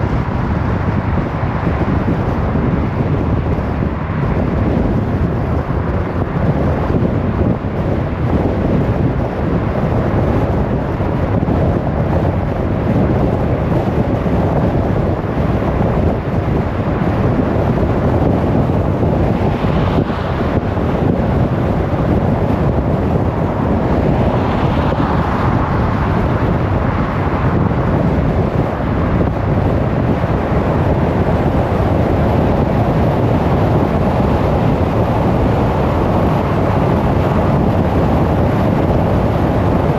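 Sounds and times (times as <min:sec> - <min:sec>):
road tyre and wind noise: 0:00.0 - 0:39.9.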